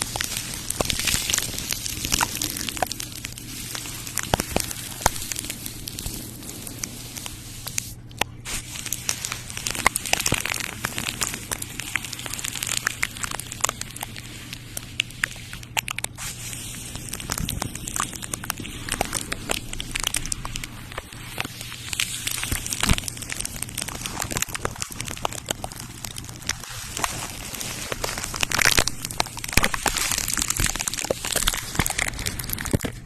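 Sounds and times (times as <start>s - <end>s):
crinkly material crackling: 0.0s - 33.0s
faint steady hum: 0.0s - 33.0s.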